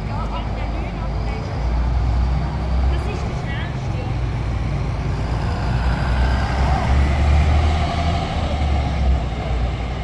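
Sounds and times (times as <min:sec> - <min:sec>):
heavy vehicle engine rumbling: 0:00.0 - 0:10.0.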